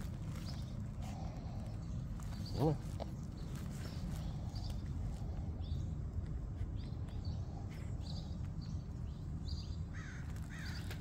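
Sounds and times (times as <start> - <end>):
birds calling: 0.0 - 11.0
steady low rumble: 0.0 - 11.0.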